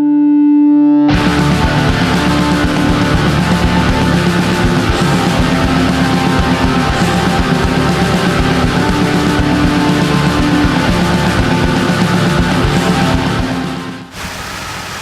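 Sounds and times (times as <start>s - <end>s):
heavy rock music: 1.1s - 14.2s.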